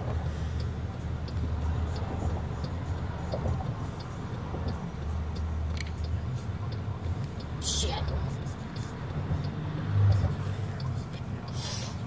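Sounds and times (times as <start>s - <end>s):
turn signal ticking: 0.0s - 12.0s.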